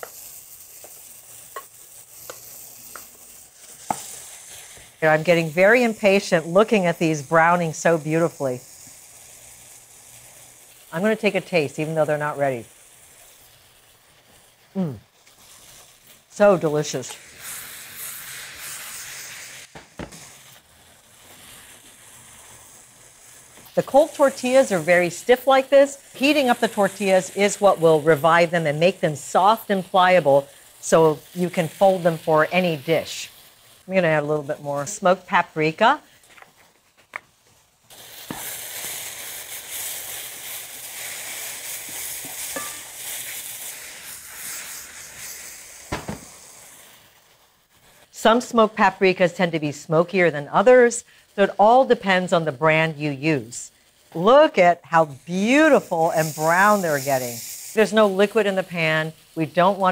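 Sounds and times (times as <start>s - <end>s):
mushrooms sizzling in oil: 0.0s - 59.9s.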